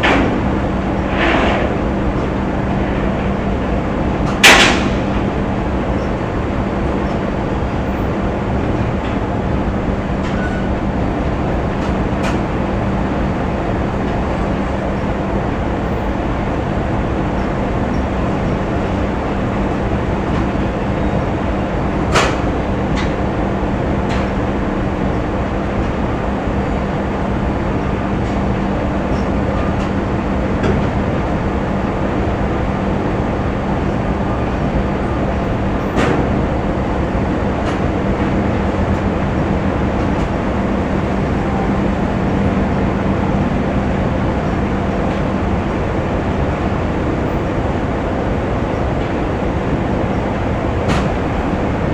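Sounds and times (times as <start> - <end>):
machinery rumble: 0.0 - 51.9.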